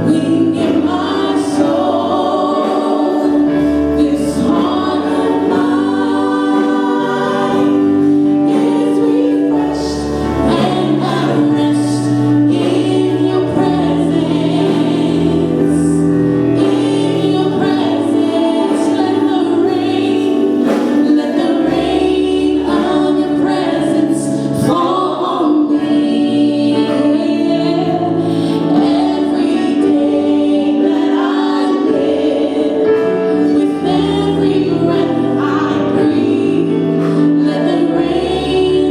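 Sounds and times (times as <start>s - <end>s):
group singing worship song: 0.0s - 38.9s
instrumental accompaniment: 0.0s - 38.9s.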